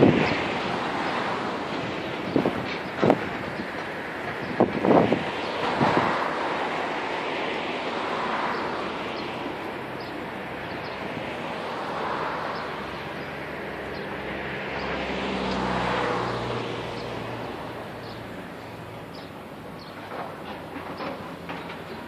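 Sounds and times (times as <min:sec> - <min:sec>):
distant excavator engines: 0:00.0 - 0:22.0.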